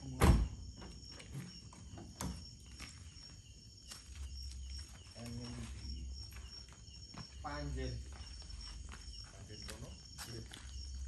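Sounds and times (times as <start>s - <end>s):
crickets chirping: 0.0s - 11.0s
footsteps on paving: 1.3s - 11.0s.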